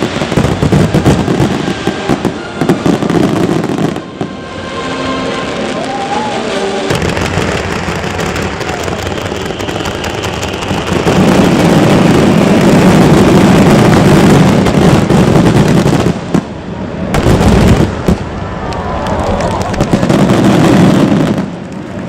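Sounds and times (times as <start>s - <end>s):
fireworks booming and crackling: 0.0s - 22.0s.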